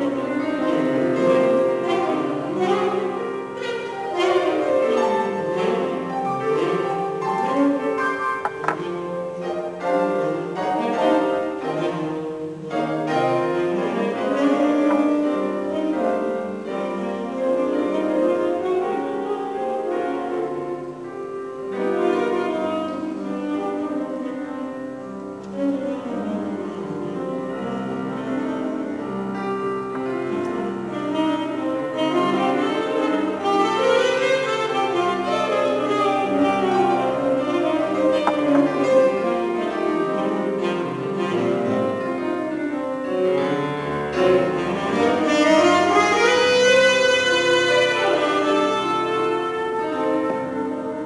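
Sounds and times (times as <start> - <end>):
chamber music on piano and strings: 0.0 - 51.0.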